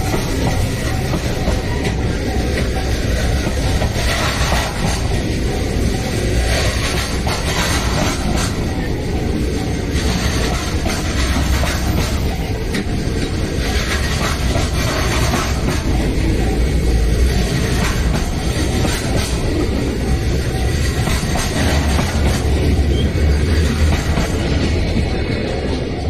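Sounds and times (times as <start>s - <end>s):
freight train rumbling: 0.0s - 26.0s
wheels clacking over rail joints: 0.0s - 26.0s.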